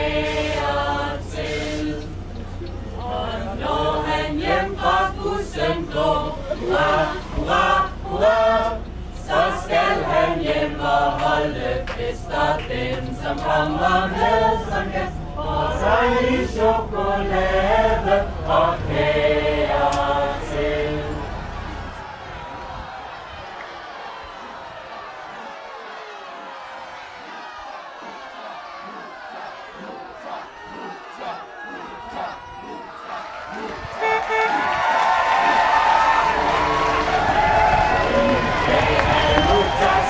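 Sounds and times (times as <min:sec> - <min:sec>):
passengers singing together: 0:00.0 - 0:40.0.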